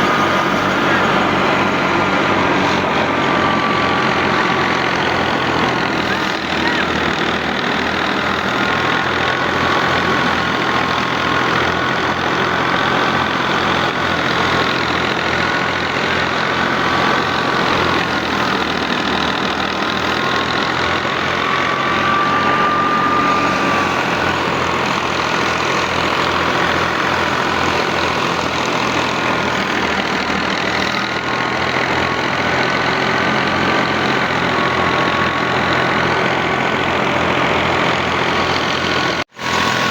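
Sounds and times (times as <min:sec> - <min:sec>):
thresher machinery clatter: 0:00.0 - 0:39.9
tractor diesel engine running: 0:00.0 - 0:39.9.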